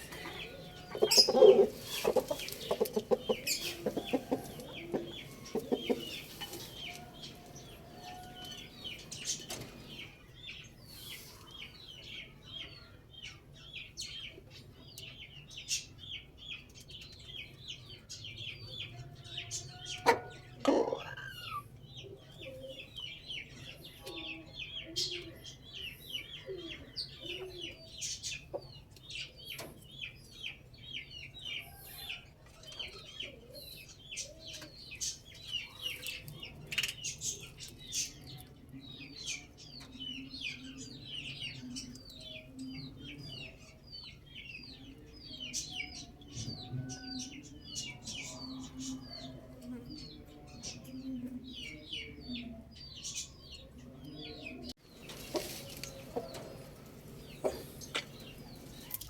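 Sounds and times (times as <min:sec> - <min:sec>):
poultry clucking: 0:00.0 - 0:12.7, 0:17.8 - 0:59.0
birds chirping: 0:00.0 - 0:59.0.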